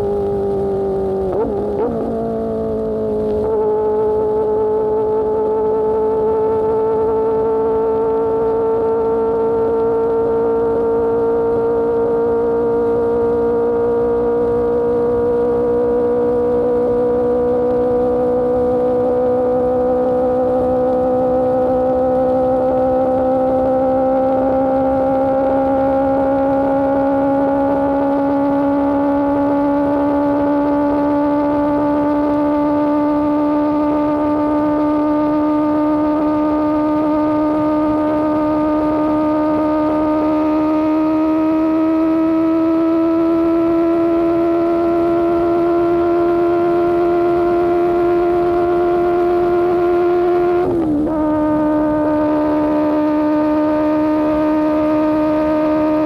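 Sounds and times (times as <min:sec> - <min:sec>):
gear change: 0:00.0 - 0:56.0
motorcycle engine revving high: 0:00.0 - 0:56.0.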